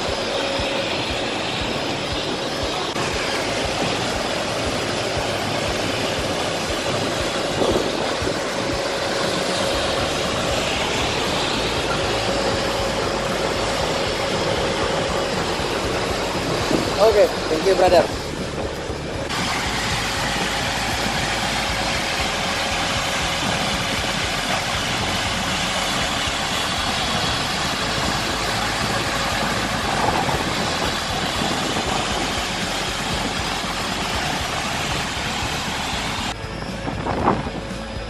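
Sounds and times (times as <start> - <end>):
constant hum: 0.0 - 38.0
machinery droning: 0.0 - 38.0.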